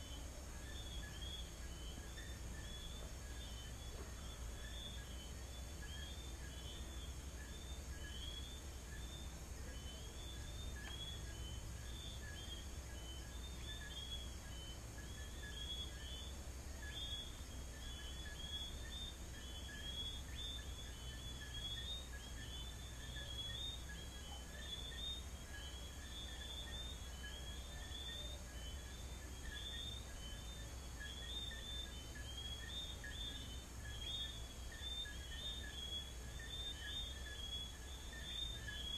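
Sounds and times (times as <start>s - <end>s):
crickets trilling: 0.0s - 38.9s
frogs whistling chirps: 0.0s - 38.9s.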